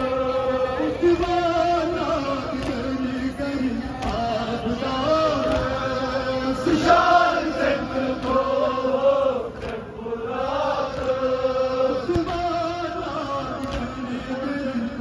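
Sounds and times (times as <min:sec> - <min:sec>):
man chanting into a microphone: 0:00.0 - 0:08.9, 0:10.9 - 0:15.0.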